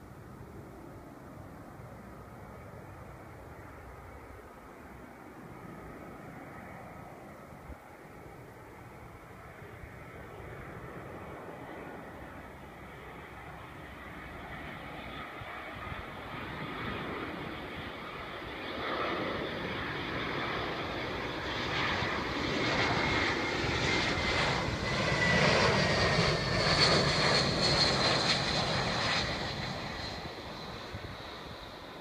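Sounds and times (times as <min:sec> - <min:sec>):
jet airliner passing low: 0:00.0 - 0:32.0.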